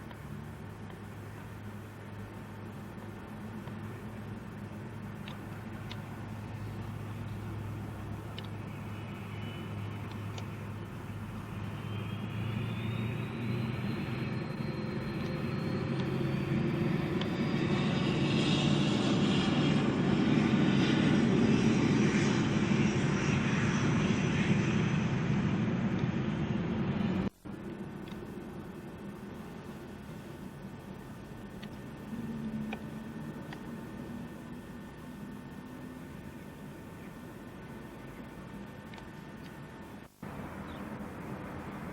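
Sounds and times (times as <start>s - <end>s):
low hum: 0.0s - 41.9s
rising whine: 0.0s - 41.9s.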